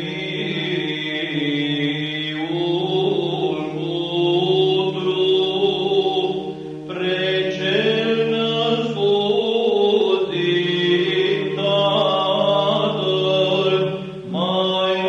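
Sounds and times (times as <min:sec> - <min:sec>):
slow chanted singing: 0:00.0 - 0:15.0.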